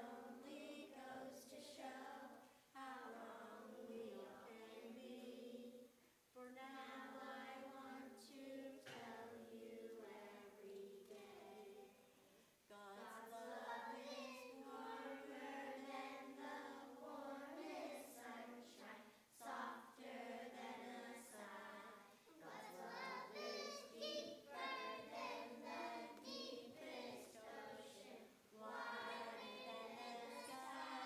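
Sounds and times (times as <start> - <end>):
children's choir singing: 0.0 - 31.0.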